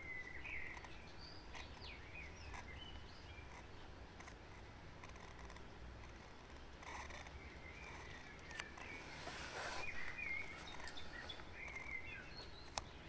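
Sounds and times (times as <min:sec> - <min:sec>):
bird chirps: 0:00.0 - 0:04.0, 0:06.4 - 0:13.0.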